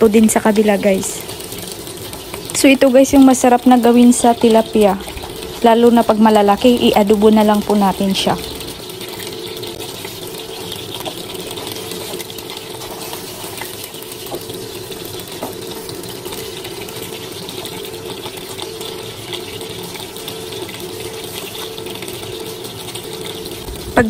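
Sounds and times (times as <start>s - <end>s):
fish sizzling in oil: 0.0s - 24.0s
oil popping: 0.1s - 24.0s.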